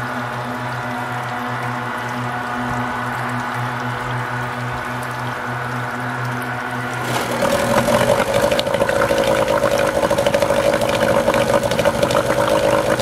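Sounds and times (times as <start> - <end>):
outboard motor running: 1.8 - 13.0.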